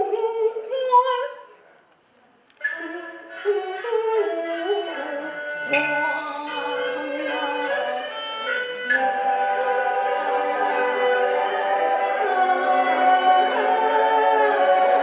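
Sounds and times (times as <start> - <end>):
woman singing opera: 2.7 - 15.0.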